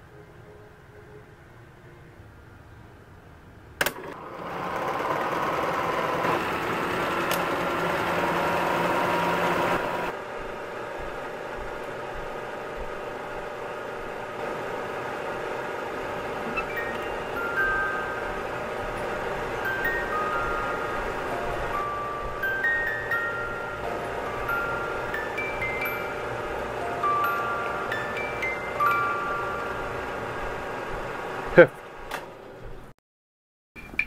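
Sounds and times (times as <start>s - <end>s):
film projector whirring: 3.8s - 32.6s.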